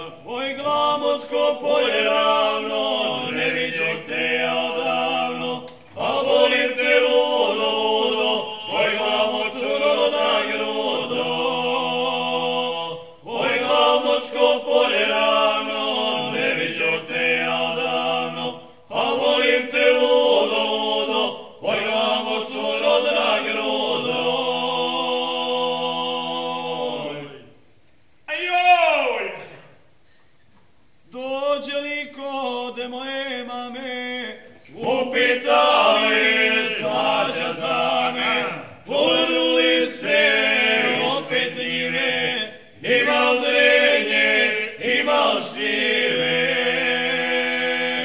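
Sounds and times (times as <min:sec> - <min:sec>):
men singing together: 0:00.0 - 0:27.5, 0:32.3 - 0:48.0.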